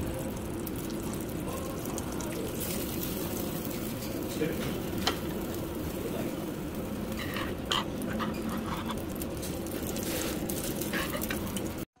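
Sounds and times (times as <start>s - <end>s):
restaurant background hum: 0.0s - 12.0s.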